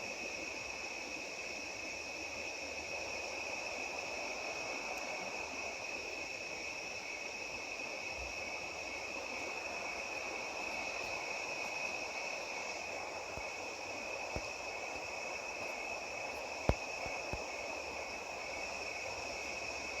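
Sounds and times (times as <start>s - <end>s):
crickets and katydids trilling: 0.0s - 20.0s.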